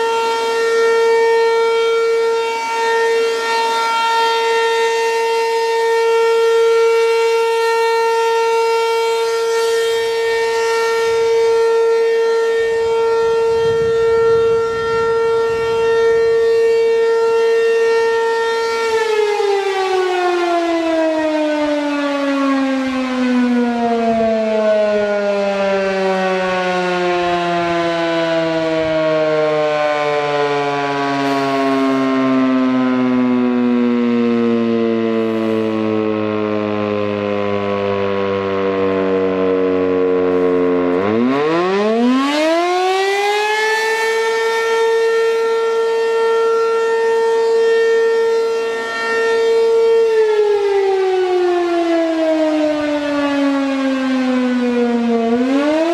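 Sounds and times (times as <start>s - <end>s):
outdoor warning siren: 0.0s - 55.9s.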